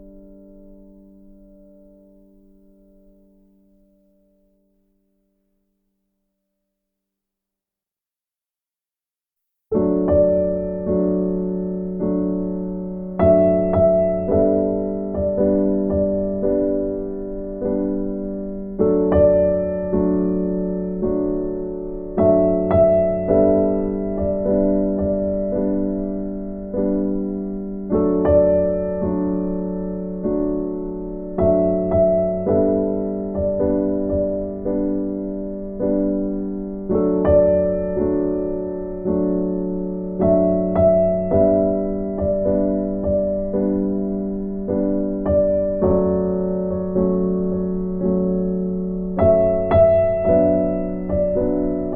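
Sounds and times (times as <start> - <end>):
gentle piano chords: 0.0 - 4.9, 9.7 - 51.9.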